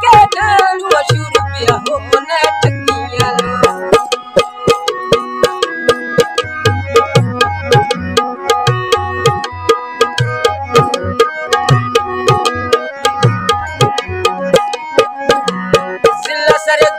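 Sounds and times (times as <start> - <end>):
harmonium chords: 0.0 - 16.9
tabla rhythm: 0.0 - 16.9.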